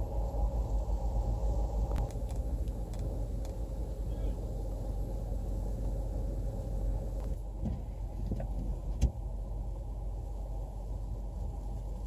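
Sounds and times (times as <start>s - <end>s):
blizzard wind rumble: 0.0s - 12.0s.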